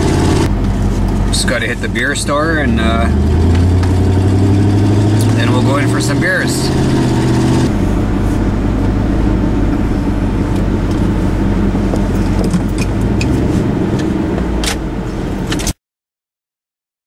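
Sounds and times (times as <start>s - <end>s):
truck engine and road noise: 0.0s - 15.8s.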